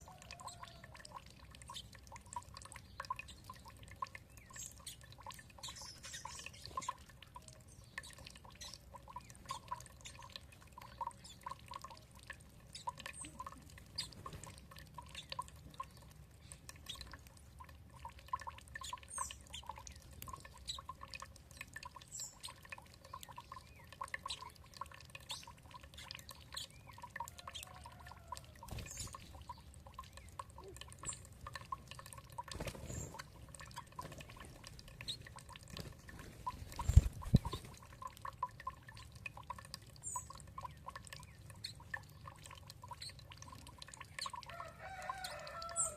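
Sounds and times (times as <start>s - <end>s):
water trickling and dripping: 0.0s - 45.9s.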